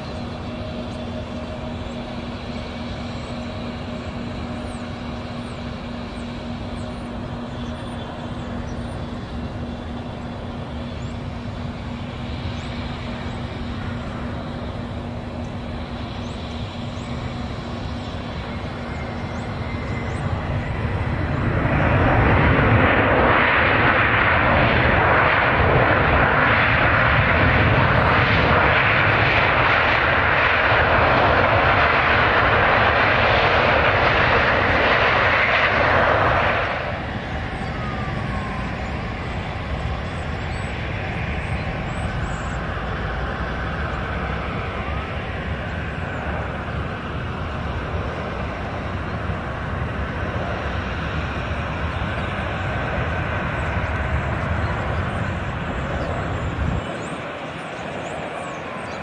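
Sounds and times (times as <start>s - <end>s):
aircraft drone: 0.0s - 59.0s
jet engines rushing: 0.0s - 59.0s.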